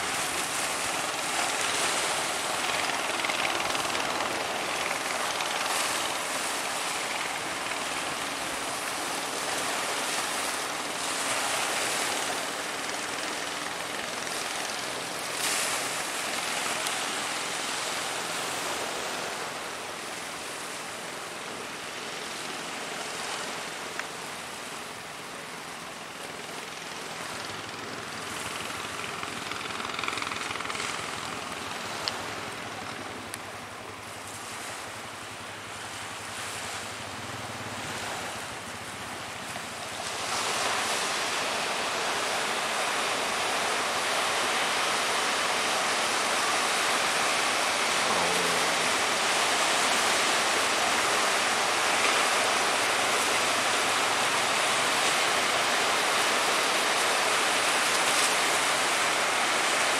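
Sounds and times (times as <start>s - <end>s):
sea waves: 0.0s - 59.9s.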